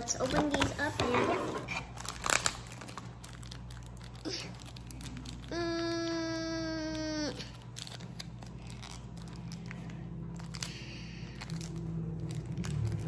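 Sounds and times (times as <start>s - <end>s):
plastic packet crinkling: 0.0s - 0.9s, 1.7s - 13.0s.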